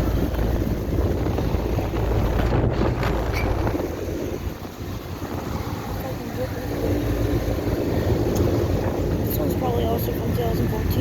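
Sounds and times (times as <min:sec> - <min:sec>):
air conditioner units rumbling: 0:00.0 - 0:11.0
condenser fans rushing air: 0:00.0 - 0:11.0.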